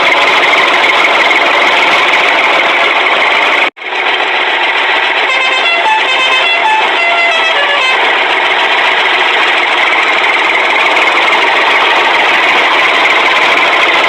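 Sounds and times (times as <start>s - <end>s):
engine-like running noise: 0.0s - 14.0s.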